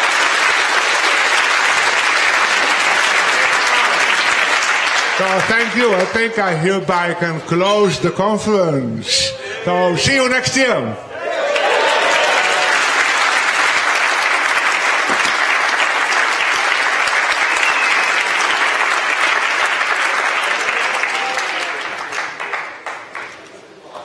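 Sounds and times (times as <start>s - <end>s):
audience applauding: 0.0s - 7.1s, 11.2s - 23.7s.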